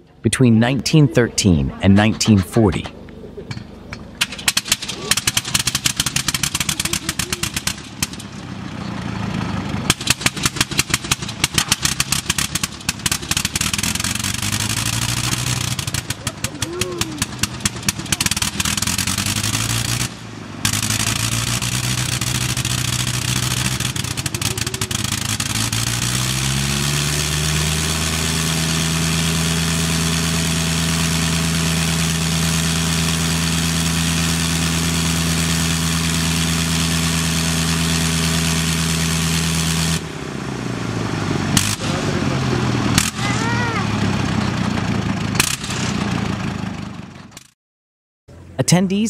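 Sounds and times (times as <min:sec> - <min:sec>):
biplane engine running: 0:00.0 - 0:47.2.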